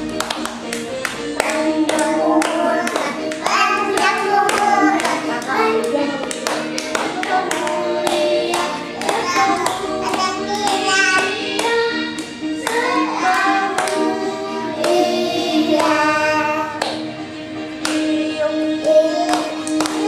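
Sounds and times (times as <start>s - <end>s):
hand claps: 0.0s - 14.2s, 15.7s - 16.0s, 16.8s - 17.1s, 17.8s - 18.2s, 18.8s - 20.0s
family singing a birthday song: 1.3s - 17.1s, 17.7s - 20.0s.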